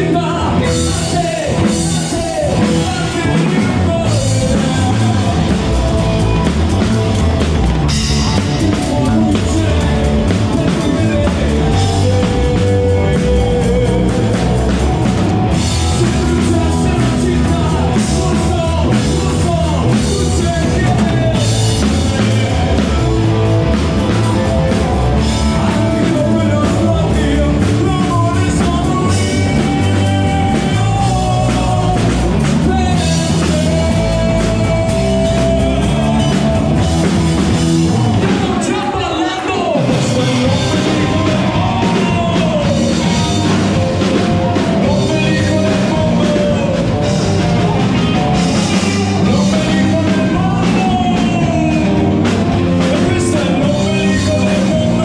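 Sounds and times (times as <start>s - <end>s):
bass guitar: 0.0s - 55.0s
drum kit: 0.0s - 55.0s
electric guitar: 0.0s - 55.0s
person singing: 0.0s - 55.0s.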